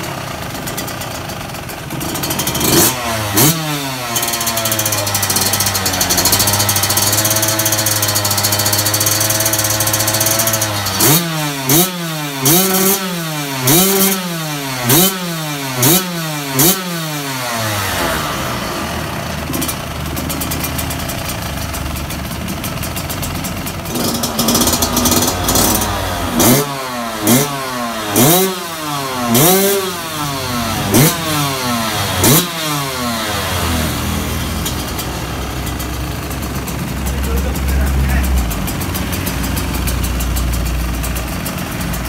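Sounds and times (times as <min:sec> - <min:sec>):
two-stroke engine idling and revving: 0:00.0 - 0:42.0.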